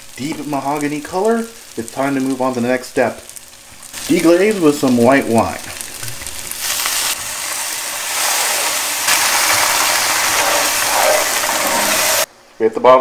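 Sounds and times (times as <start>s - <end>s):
wine sizzling in a hot pan: 0.0s - 12.3s.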